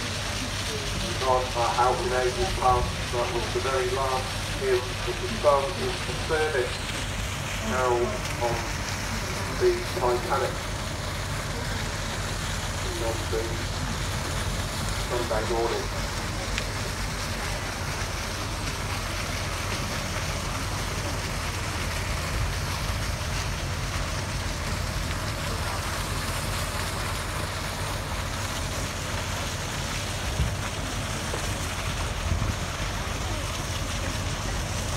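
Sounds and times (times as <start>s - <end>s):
water rushing along hull: 0.0s - 34.9s.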